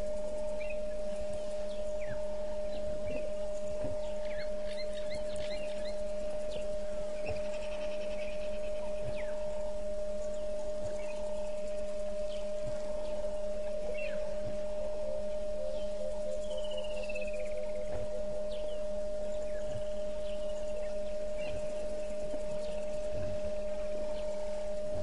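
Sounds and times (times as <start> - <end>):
bird trill: 0.0 - 25.0
steady hum tone: 0.0 - 25.0
whistled bird chirps: 0.0 - 25.0.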